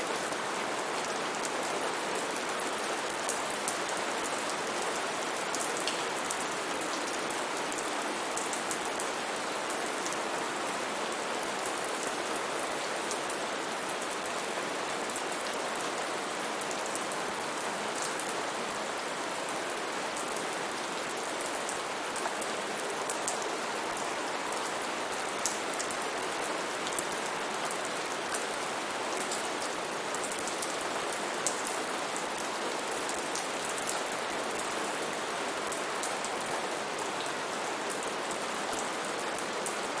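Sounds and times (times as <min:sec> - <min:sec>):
rain on foliage: 0:00.0 - 0:40.0.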